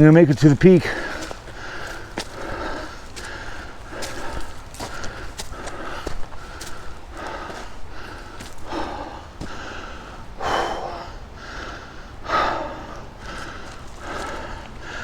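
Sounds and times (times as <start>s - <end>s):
man breathing hard and gasping: 0.8s - 15.0s.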